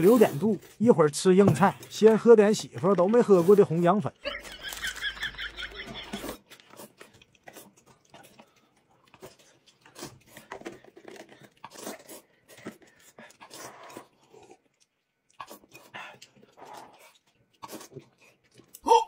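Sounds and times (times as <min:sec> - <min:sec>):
slurping and chewing noodles: 0:00.0 - 0:19.0.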